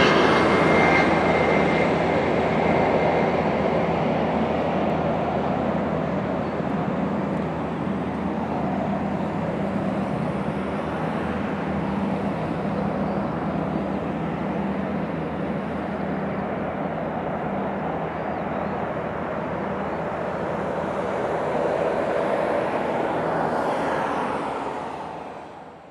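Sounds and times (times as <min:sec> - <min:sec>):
jet engines of landing airliner: 0:00.0 - 0:25.9.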